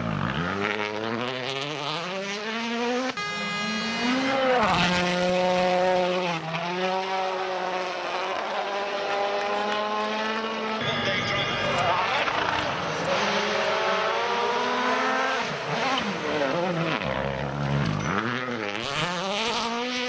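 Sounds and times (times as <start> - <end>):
rally car engine accelerating: 0.0 - 11.1, 11.7 - 20.0
rally car engine revving: 0.0 - 20.0.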